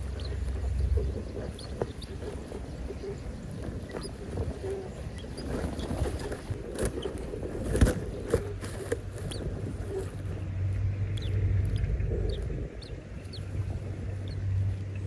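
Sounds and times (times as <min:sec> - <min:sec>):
nestling birds cheeping: 0:00.0 - 0:10.3, 0:11.0 - 0:15.0
low steady hum: 0:00.0 - 0:15.0
rustling and scratching clicks: 0:00.0 - 0:15.0.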